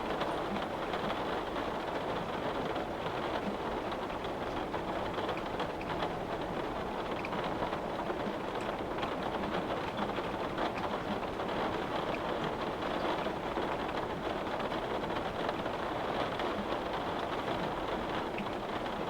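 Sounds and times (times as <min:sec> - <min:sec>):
rain pattering on window glass: 0:00.0 - 0:19.0.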